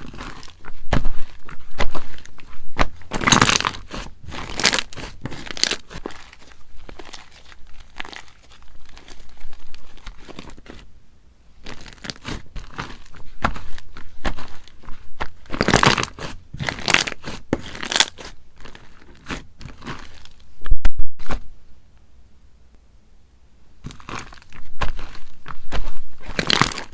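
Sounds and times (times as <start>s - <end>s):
slime squished by hand: 0.0s - 10.8s, 11.6s - 20.4s, 23.8s - 26.9s.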